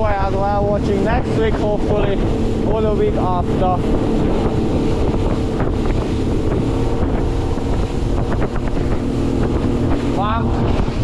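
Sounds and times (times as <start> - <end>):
outboard motor running: 0.0 - 11.0
water rushing along hull: 0.0 - 11.0
wind buffeting microphone: 0.0 - 11.0.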